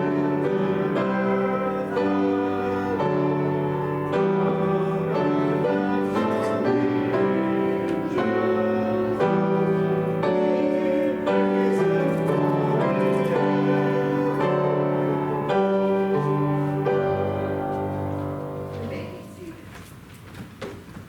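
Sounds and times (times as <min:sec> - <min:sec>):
church keyboard playing a hymn: 0:00.0 - 0:20.0.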